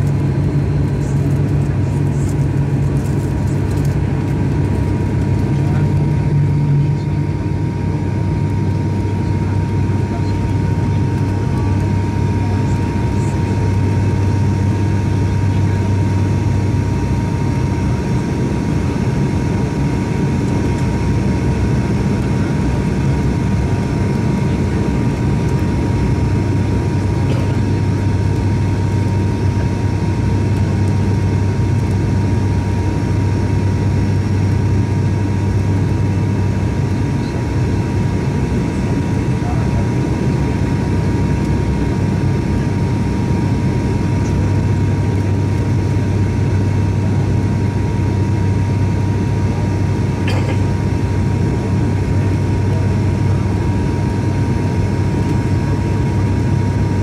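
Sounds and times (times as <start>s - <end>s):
airliner engine drone: 0.0s - 57.0s
thin steady whine: 0.0s - 57.0s.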